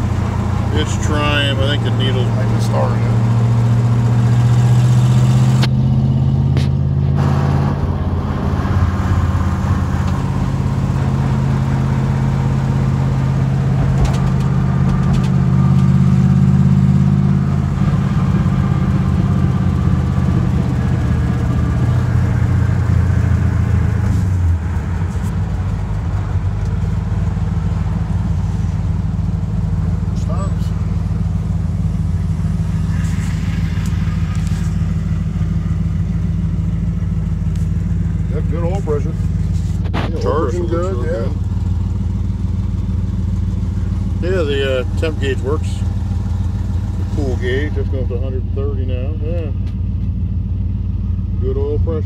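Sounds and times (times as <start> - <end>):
car engine running: 0.0 - 52.0
road noise: 0.0 - 52.0.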